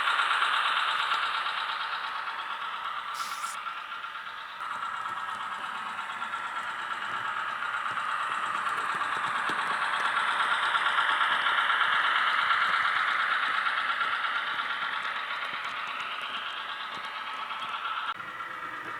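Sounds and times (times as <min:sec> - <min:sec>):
tinny diesel engine sound: 0:00.0 - 0:18.9.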